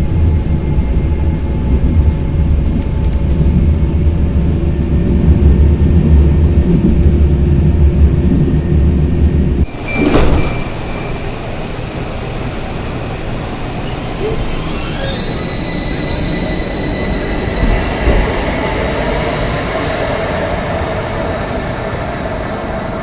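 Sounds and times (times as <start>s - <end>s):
electric tram rumbling: 0.0s - 23.0s.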